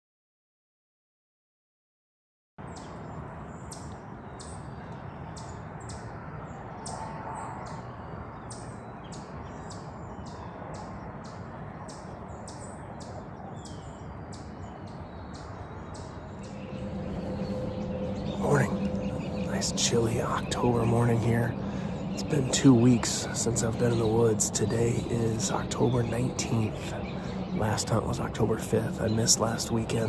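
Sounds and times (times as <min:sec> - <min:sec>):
bird chirping: 0:02.6 - 0:30.0.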